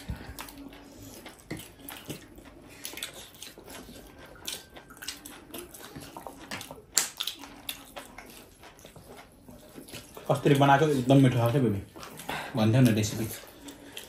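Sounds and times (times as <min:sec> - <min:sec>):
chewing and wet mouth smacks: 0:00.0 - 0:14.0.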